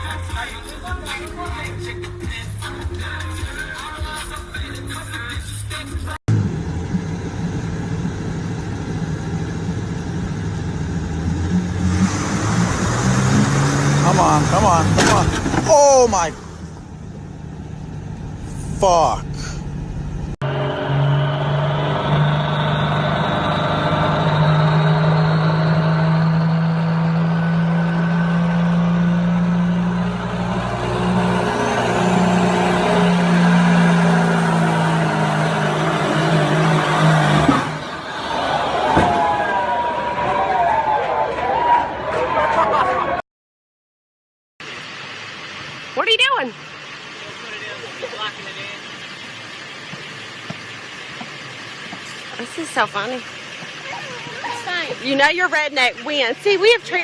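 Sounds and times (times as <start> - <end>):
vehicle engine running: 0.0 - 37.9, 44.6 - 57.0.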